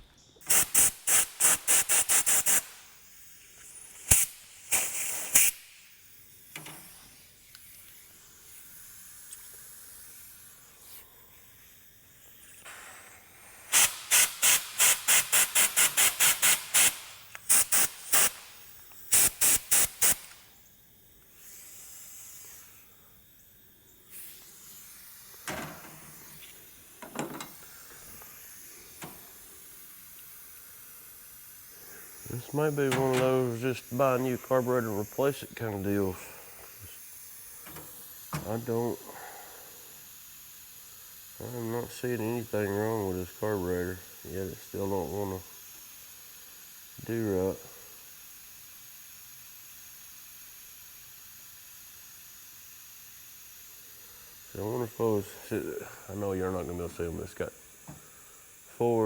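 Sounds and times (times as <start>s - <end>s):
compressed air hissing blasts: 0.0s - 59.0s.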